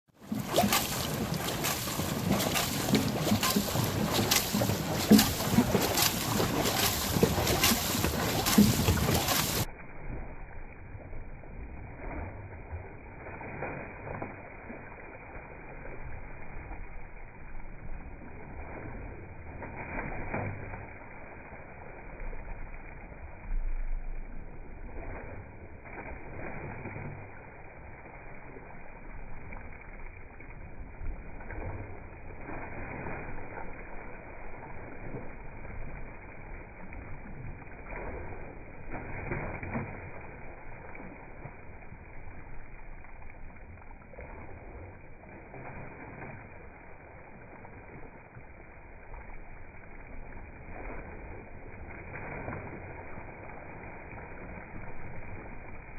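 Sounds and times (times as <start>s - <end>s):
water rushing along hull: 0.0s - 55.9s
paddles stroking through water: 0.1s - 55.9s.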